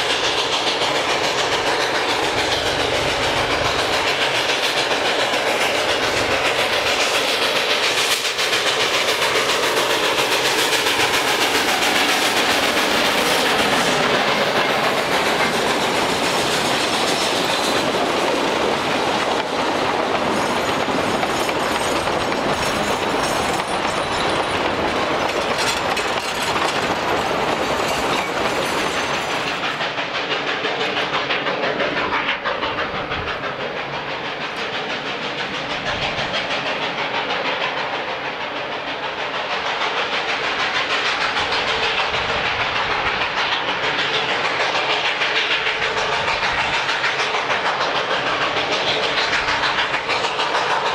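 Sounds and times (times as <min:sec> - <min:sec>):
steam train running: 0:00.0 - 0:50.9
train wheels clicking over rail joints: 0:00.0 - 0:50.9.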